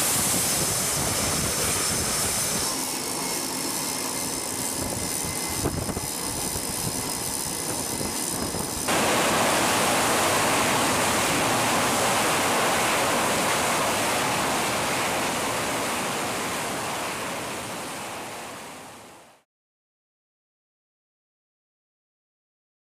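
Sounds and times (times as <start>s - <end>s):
jet engine whine and roar: 0.0s - 19.4s.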